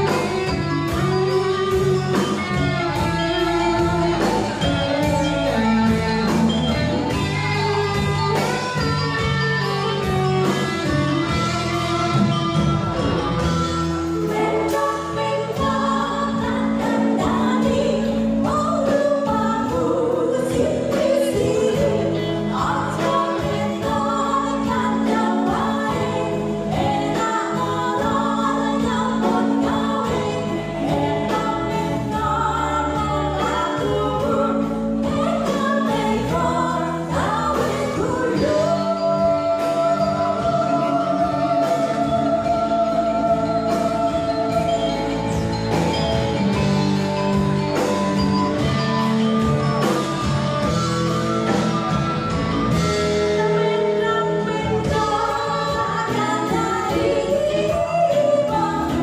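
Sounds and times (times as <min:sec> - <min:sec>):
woman singing: 0:00.0 - 0:12.2, 0:14.0 - 0:46.6, 0:52.7 - 0:59.0
live band with electric guitars: 0:00.0 - 0:59.0.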